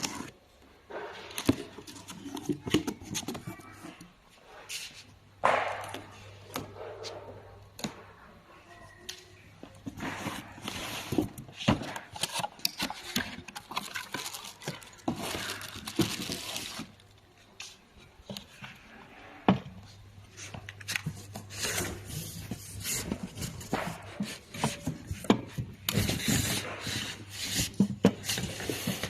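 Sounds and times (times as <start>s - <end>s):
packaging rustling and scraping: 0.0s - 7.3s, 9.6s - 29.0s.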